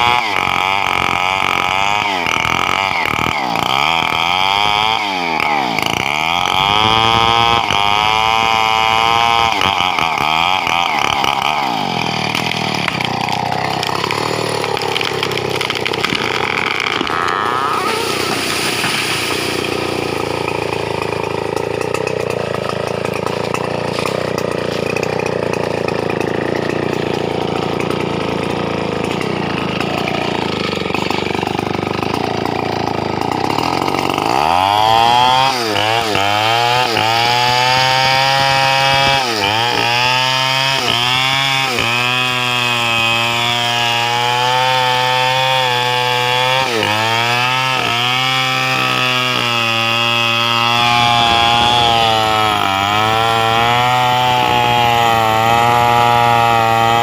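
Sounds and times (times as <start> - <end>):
chainsaw cutting a tree: 0.0 - 57.0.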